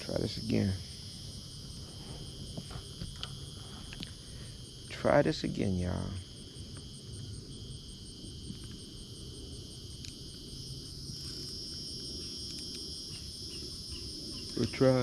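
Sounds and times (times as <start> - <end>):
insect pulsing high: 0.0 - 15.0
insects trilling: 0.0 - 15.0.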